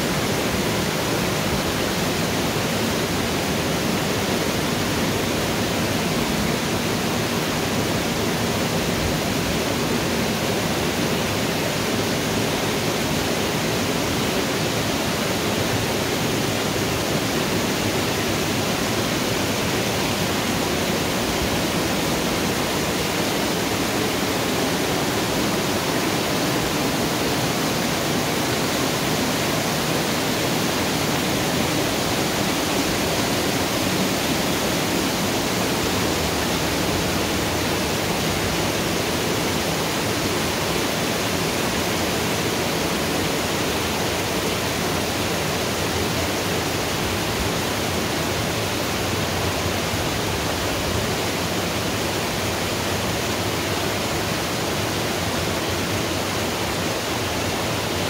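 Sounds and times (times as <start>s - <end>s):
water rushing into canal lock: 0.0s - 58.0s.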